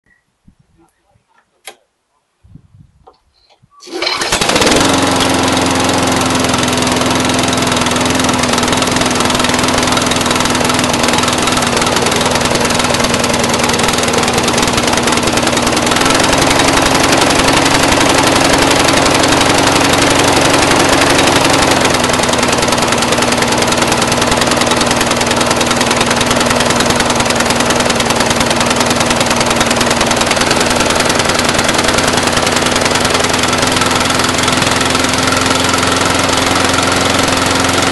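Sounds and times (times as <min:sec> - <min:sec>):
lawn mower engine idling rough: 0:03.8 - 0:37.9.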